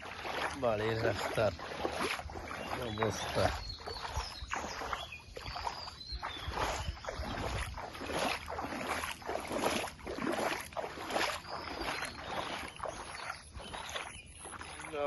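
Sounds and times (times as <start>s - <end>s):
floodwater sloshing and swishing: 0.0s - 15.0s.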